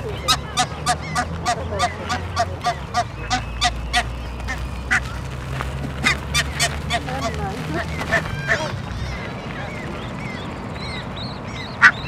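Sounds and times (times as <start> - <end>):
geese honking: 0.0 - 12.0
wings flapping: 0.5 - 11.0.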